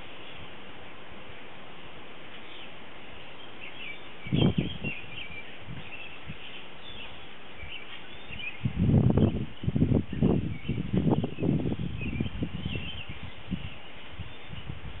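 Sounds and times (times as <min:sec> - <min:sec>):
small birds chirping: 0:00.0 - 0:00.6, 0:02.3 - 0:15.0
low rush of noise: 0:00.0 - 0:15.0
steady outdoor hiss: 0:00.0 - 0:15.0.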